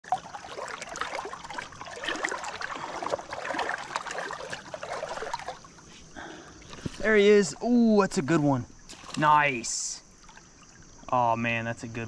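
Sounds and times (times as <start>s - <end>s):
river water splashing: 0.0s - 11.1s.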